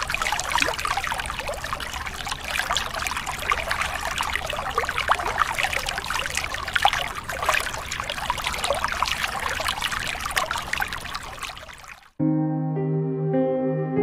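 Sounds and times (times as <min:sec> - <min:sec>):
water splashing from pumps: 0:00.0 - 0:12.2.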